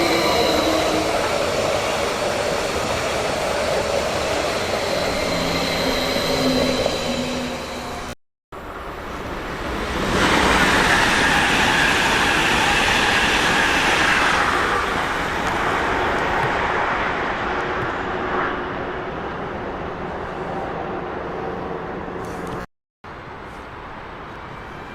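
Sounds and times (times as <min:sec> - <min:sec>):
train wheels rushing on rails: 0:00.0 - 0:20.8.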